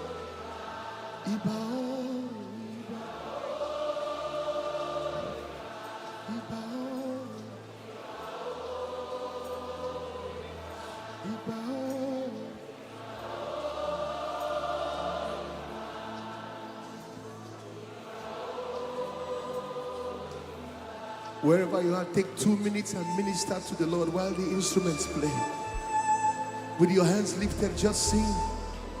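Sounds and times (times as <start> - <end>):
group singing worship: 0.0 - 29.0
sustained instrumental accompaniment: 0.0 - 29.0.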